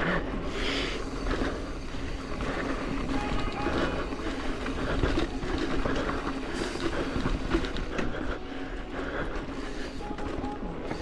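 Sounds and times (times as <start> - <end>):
bike tyres on dirt: 0.0 - 11.0.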